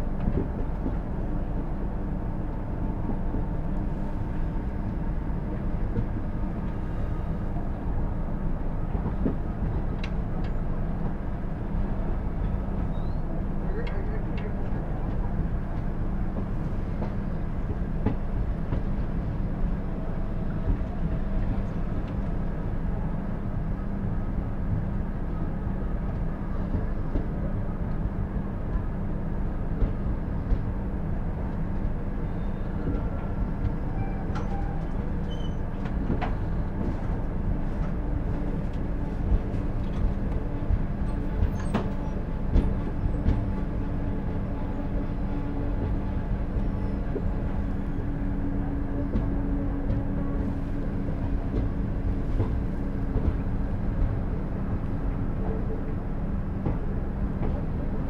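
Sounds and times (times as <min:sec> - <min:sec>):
passenger train rumbling: 0:00.0 - 0:58.0
train clicks and knocks: 0:00.0 - 0:58.0.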